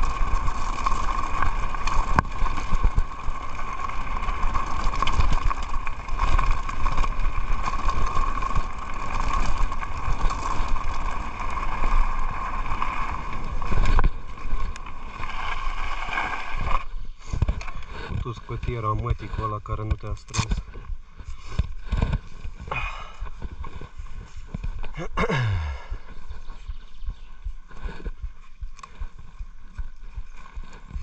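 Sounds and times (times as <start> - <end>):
bike rattling over stones: 0.0 - 31.0
tyres crunching on gravel: 0.0 - 31.0.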